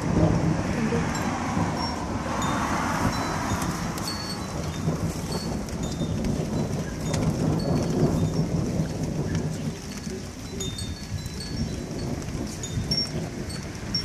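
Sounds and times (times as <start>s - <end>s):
rolling thunder: 0.0s - 14.0s.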